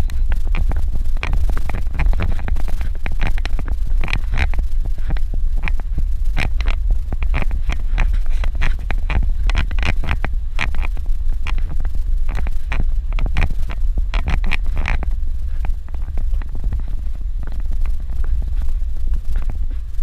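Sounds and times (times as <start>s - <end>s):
car engine rumble: 0.0s - 20.0s
gravel clicks and knocks: 0.0s - 20.0s
rattles: 0.0s - 20.0s.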